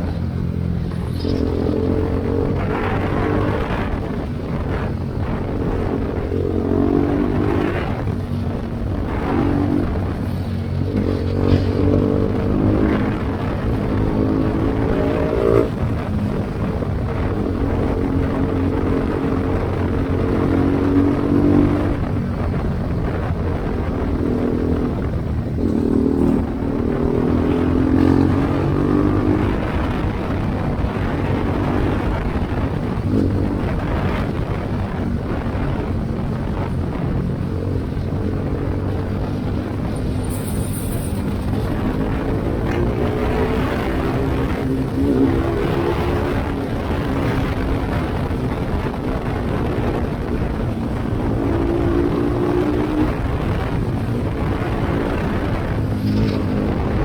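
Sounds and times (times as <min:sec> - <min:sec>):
motorcycle engine revving: 0:00.0 - 0:57.0
wind rushing: 0:00.0 - 0:57.0.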